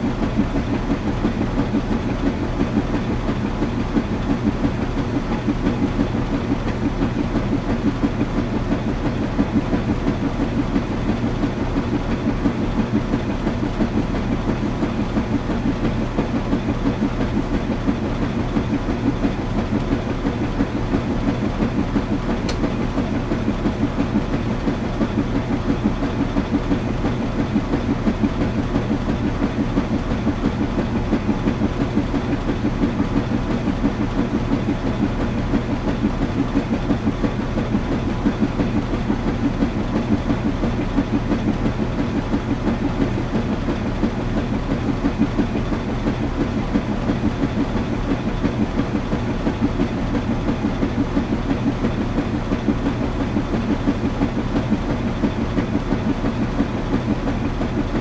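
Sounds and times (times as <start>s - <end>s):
washing machine drum pulsing: 0.0s - 58.0s.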